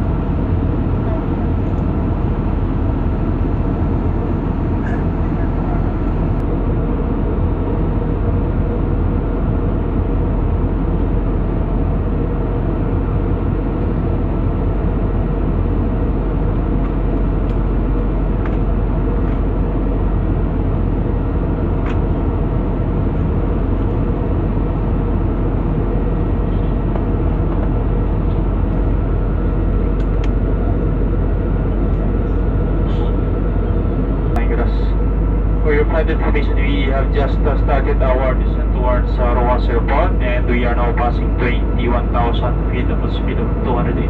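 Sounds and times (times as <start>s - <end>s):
airliner cabin drone: 0.0s - 44.0s.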